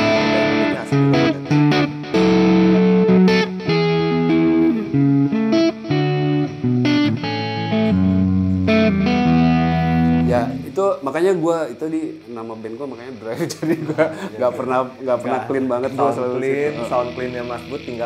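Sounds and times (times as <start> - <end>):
overdriven electric guitar: 0.0 - 12.8, 15.8 - 18.0.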